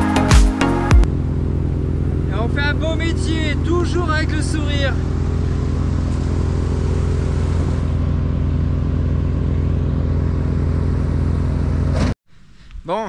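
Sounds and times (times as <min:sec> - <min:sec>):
wood chipper engine running: 0:01.0 - 0:12.1.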